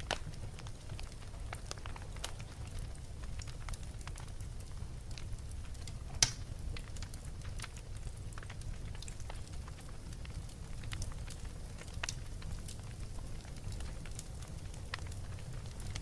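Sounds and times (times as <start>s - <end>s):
wood fire rumbling and crackling: 0.0s - 16.0s.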